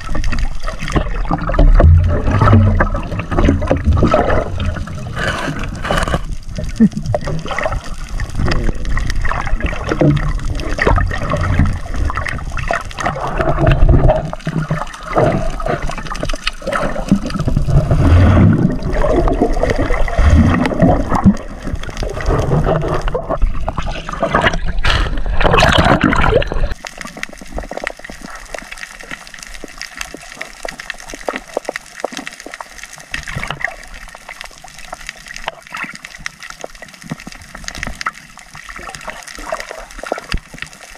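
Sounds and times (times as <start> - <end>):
bubbles: 0.0 - 40.9
water gurgling and rushing underwater: 0.0 - 40.9.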